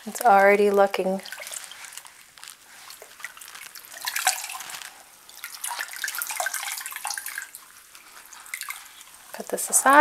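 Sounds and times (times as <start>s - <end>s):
water splashing and dripping: 0.1s - 9.6s.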